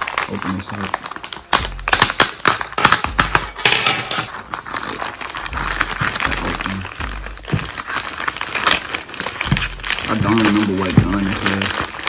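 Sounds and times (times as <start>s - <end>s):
plastic bag crinkling and rustling: 0.0s - 12.0s.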